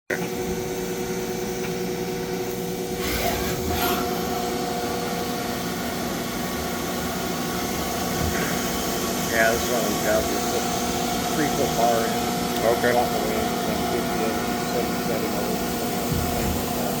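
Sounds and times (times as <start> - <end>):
high machine whine: 0.1 - 17.0
lathe humming and whining: 0.1 - 17.0.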